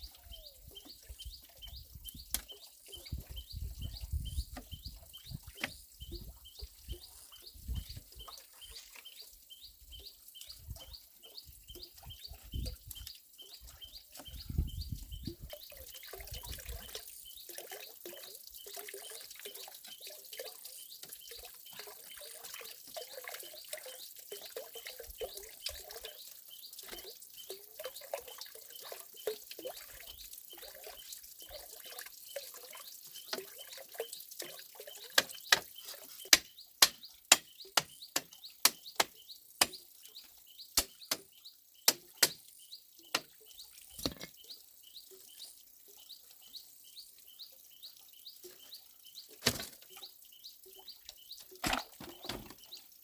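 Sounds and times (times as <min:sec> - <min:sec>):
water trickling: 0:00.0 - 0:47.4, 0:48.2 - 0:53.0
birds chirping: 0:00.0 - 0:53.0.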